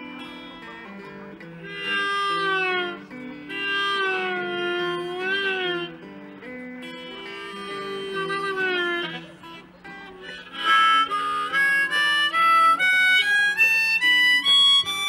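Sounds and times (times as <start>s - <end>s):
electric guitar: 0.0s - 15.0s
harmonica playing: 0.0s - 15.0s.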